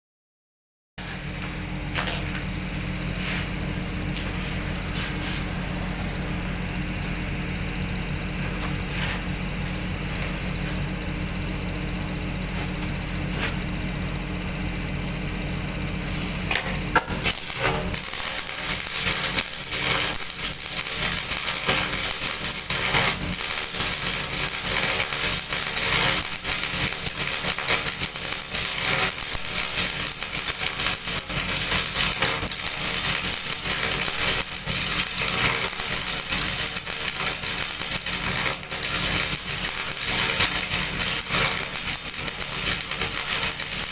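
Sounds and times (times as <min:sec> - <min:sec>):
low mechanical hum: 0:01.0 - 0:43.9.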